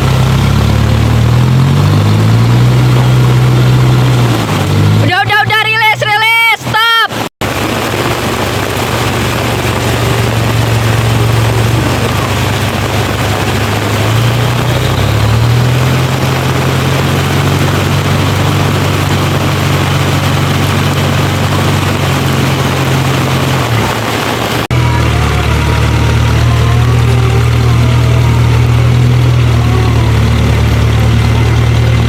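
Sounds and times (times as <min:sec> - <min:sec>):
off-road vehicle engine running: 0:00.0 - 0:32.0.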